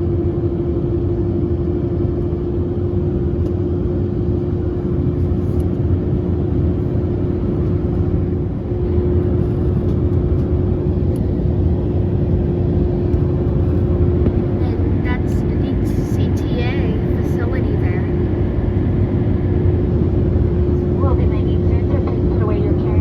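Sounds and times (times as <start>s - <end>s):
airflow and engine rumble: 0.0s - 23.0s
constant humming tone: 0.0s - 23.0s.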